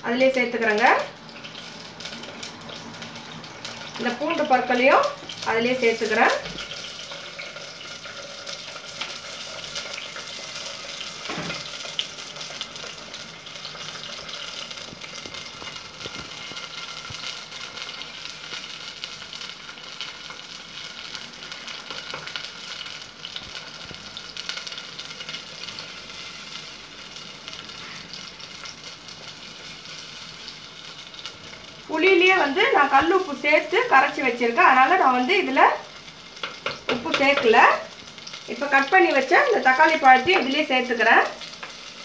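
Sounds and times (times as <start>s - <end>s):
onions frying in hot oil: 0.0s - 42.0s.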